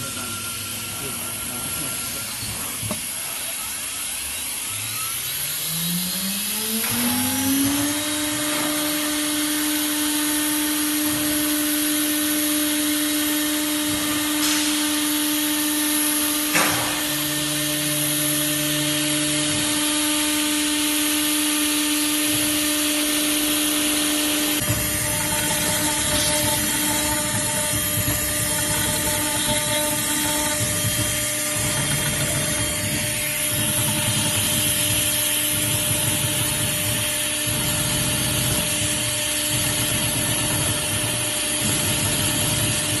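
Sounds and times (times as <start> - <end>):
router spindle whine: 0.0 - 43.0.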